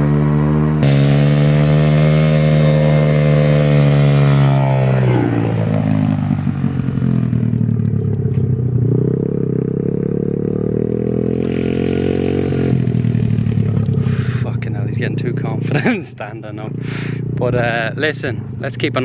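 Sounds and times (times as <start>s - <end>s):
pit bike engine: 0.0s - 19.0s.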